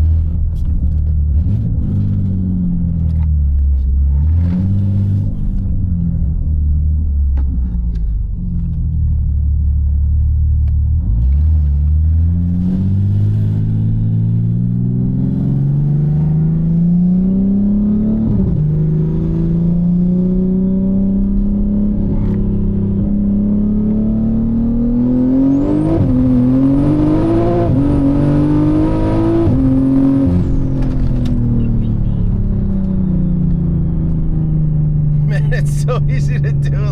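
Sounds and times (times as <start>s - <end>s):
car engine accelerating hard: 0.0s - 36.9s.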